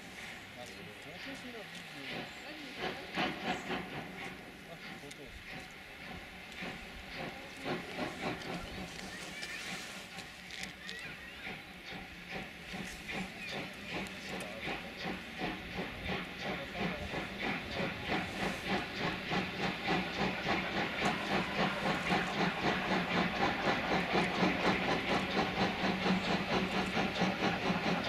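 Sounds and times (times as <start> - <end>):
steam locomotive exhaust chuffing: 0.0 - 28.0.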